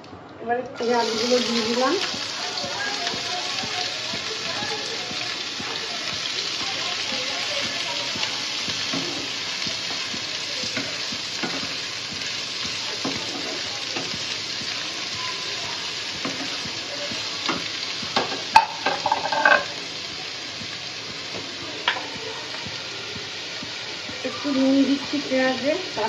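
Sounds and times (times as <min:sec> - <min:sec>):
onions sizzling in oil: 0:00.8 - 0:26.0.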